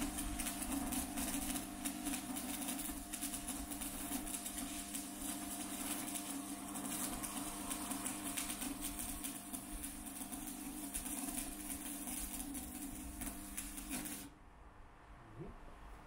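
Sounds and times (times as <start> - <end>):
welding arc crackling: 0.0 - 14.3.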